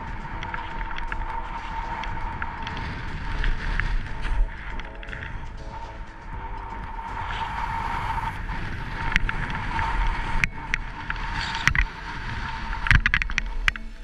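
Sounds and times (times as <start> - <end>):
snowboard scraping over snow: 0.0 - 14.0
wind on microphone: 0.0 - 14.0.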